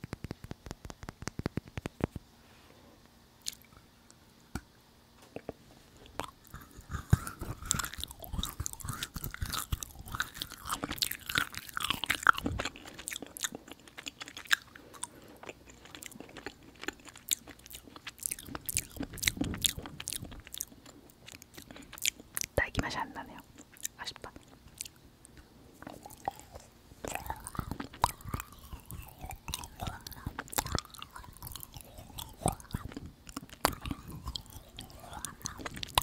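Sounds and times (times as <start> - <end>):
chewing sticky food: 3.4 - 3.8, 5.3 - 36.0.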